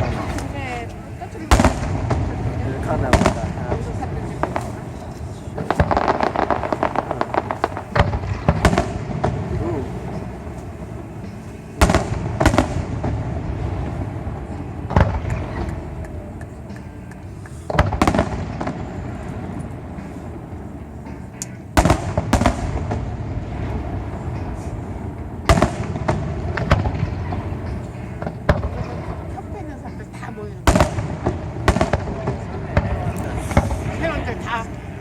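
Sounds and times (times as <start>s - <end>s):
fireworks bursting with bangs: 0.0s - 29.4s, 30.1s - 35.0s.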